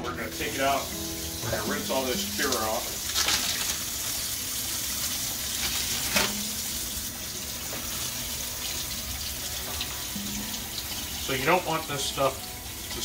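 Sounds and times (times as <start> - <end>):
faucet running into steel sink: 0.3 - 13.0.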